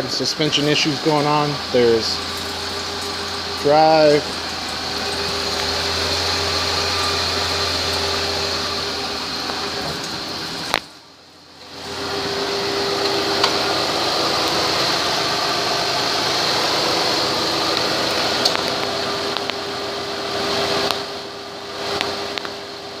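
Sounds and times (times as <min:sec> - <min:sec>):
car engine running with whine: 0:00.0 - 0:23.0.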